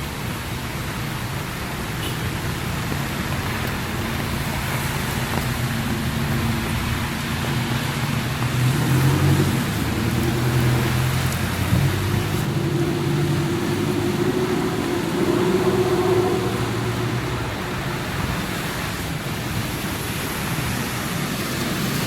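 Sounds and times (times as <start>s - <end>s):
heavy rain falling: 0.0s - 22.0s
vehicle engine running: 2.9s - 22.0s.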